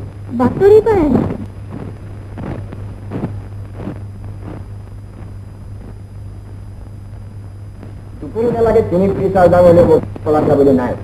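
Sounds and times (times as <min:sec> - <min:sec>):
faint indistinct sounds: 0:00.0 - 0:11.0
film soundtrack hum and hiss: 0:00.0 - 0:11.0.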